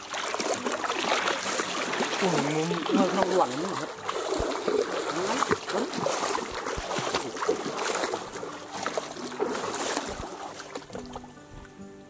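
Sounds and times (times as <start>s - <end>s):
faint music with held notes: 0.0s - 12.0s
water splashing and trickling: 0.0s - 12.0s.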